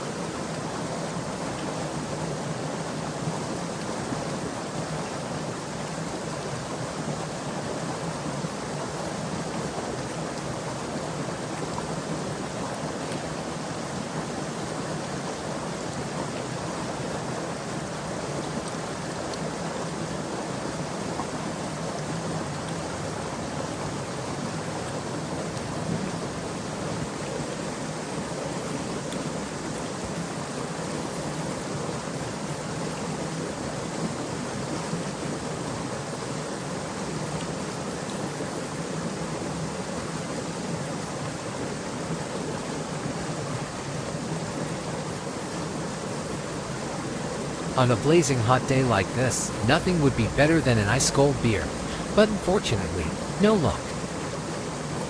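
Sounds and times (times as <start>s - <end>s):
stream water running: 0.0s - 47.8s.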